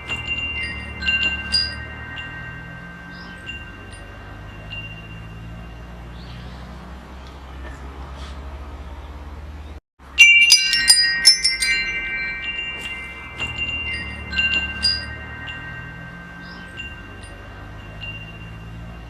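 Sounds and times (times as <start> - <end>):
wind chimes ringing: 0.0 - 6.9, 10.0 - 19.0.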